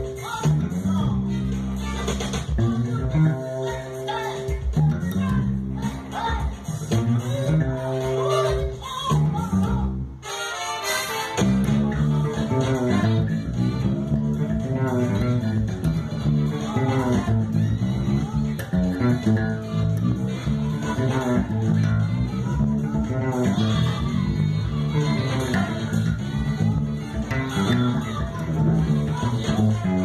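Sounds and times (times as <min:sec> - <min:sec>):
fretless bass line: 0:00.0 - 0:10.2, 0:11.0 - 0:30.0
band backing track: 0:00.0 - 0:30.0.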